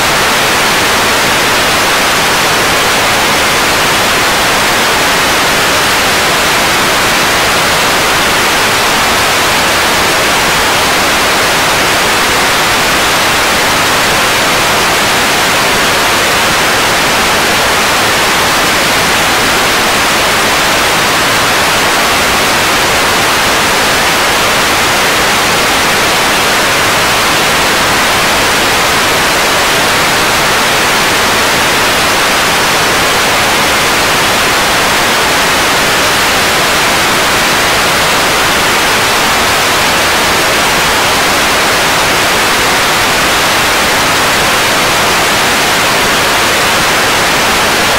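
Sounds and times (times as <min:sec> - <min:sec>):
static hiss: 0:00.0 - 0:47.9.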